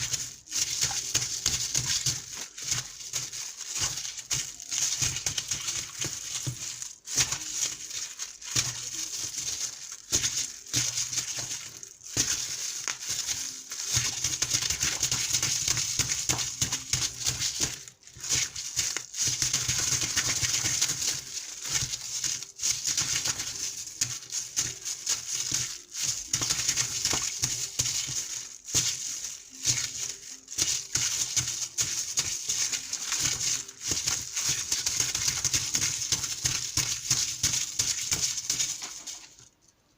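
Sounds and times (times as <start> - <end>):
water splashing and running: 0.0 - 39.3.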